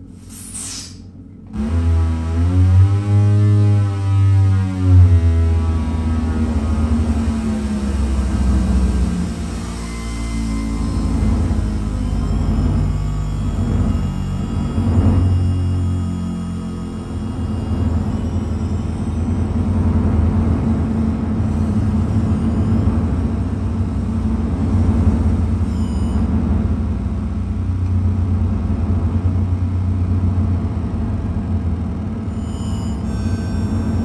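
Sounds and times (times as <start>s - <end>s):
electronic noise music: 0.0s - 29.7s, 31.9s - 34.0s.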